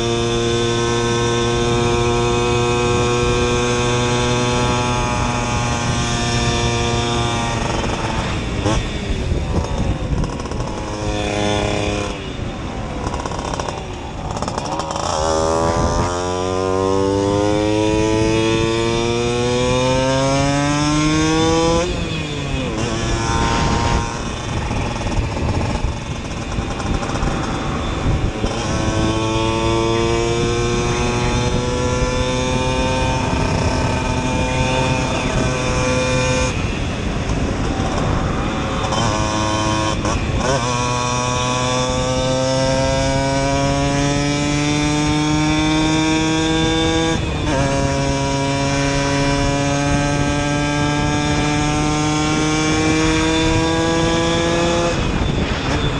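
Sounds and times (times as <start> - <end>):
moped engine revving: 0.0 - 55.9.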